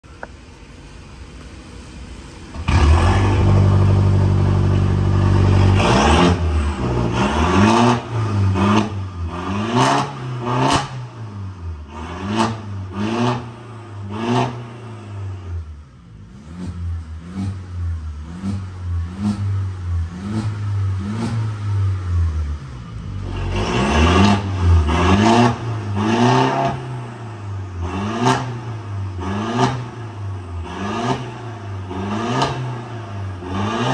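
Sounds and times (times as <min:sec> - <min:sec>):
car engine revving: 0:02.5 - 0:33.9.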